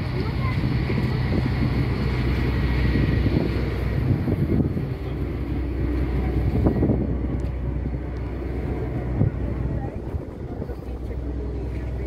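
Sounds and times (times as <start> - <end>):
boat engine drone: 0.0 - 12.0
rushing water noise: 0.0 - 12.0.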